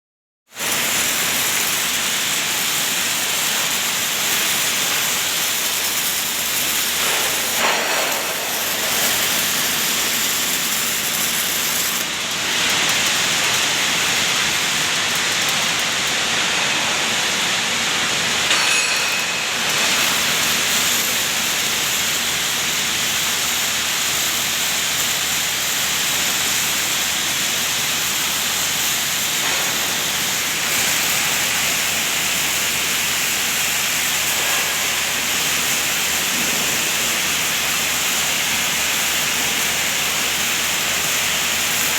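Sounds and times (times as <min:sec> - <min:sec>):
welding arc crackling and hissing: 0:00.5 - 0:41.9.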